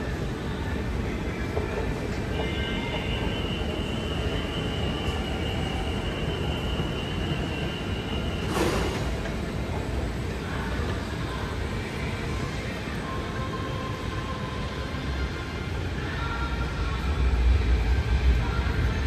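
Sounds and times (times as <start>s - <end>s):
train rumbling inside carriage: 0.0s - 19.0s.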